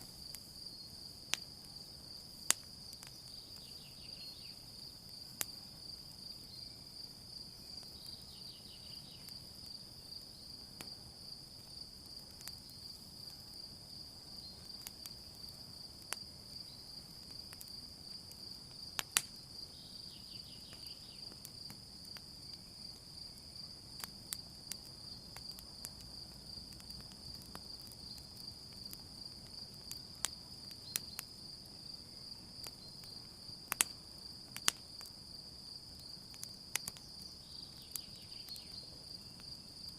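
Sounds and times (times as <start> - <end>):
campfire crackling and popping: 0.0 - 39.9
insects trilling: 0.0 - 39.9.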